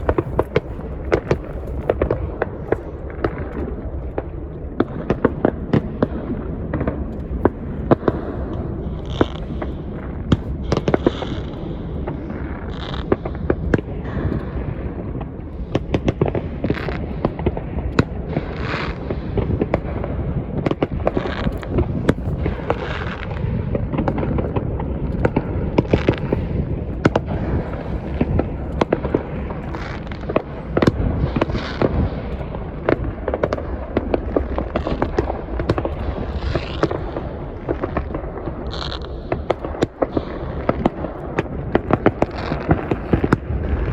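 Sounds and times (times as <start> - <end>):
low rumble: 0.0 - 16.9, 17.5 - 43.9
crackle and hiss of fireworks: 0.0 - 43.9
fireworks bangs and pops: 0.0 - 43.9.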